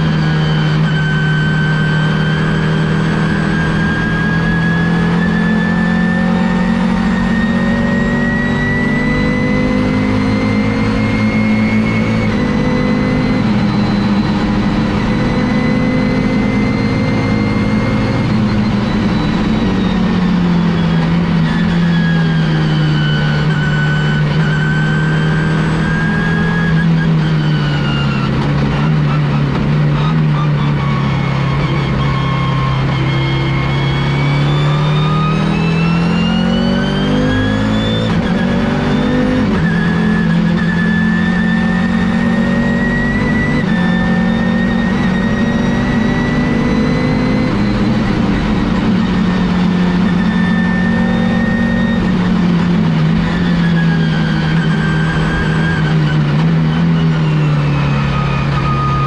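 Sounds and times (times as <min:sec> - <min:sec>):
high whine: 0:00.0 - 0:59.0
race car engine: 0:00.0 - 0:59.0.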